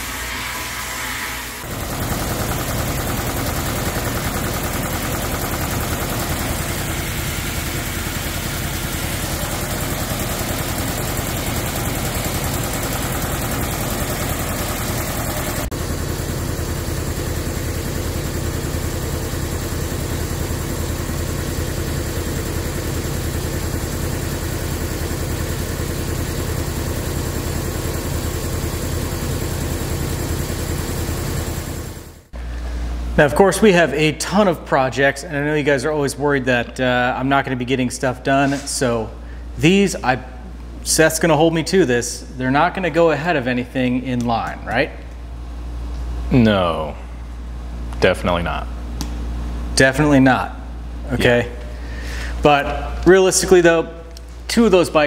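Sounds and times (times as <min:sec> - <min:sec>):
air compressor motor hum: 0:00.0 - 0:55.0.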